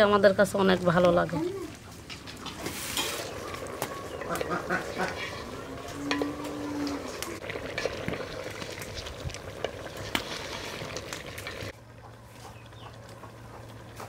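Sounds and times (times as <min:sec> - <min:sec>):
curry sizzling and bubbling in pot: 0:00.0 - 0:14.0.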